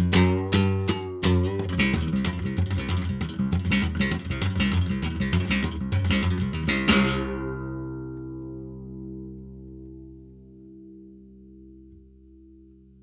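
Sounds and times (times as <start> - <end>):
guitar strumming chords: 0.0 - 11.8.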